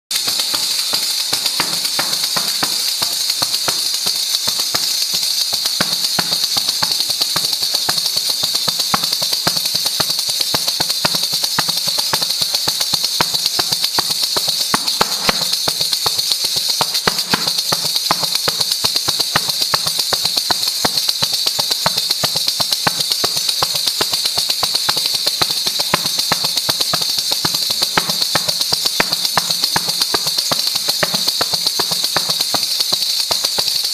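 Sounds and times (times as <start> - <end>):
frame drum with jingles: 0.1 - 33.9.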